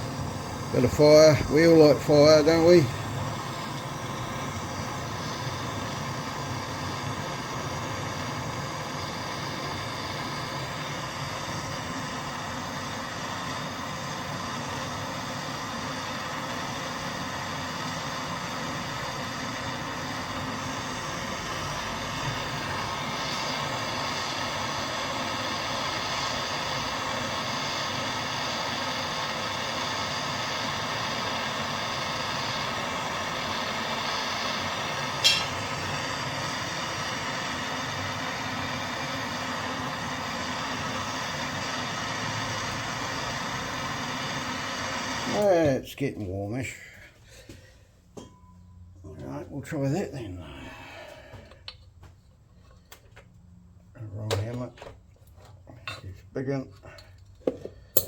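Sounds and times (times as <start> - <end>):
blowtorch flame hissing: 0.0 - 47.6, 49.6 - 51.8, 56.4 - 58.0.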